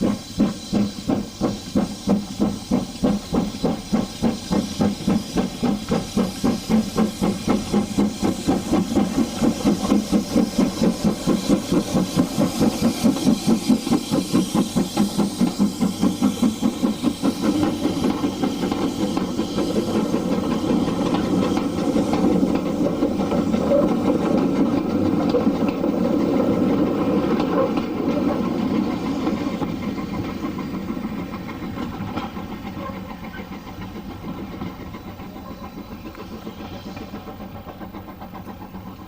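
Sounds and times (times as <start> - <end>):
steam locomotive chuffing: 0.0 - 39.0.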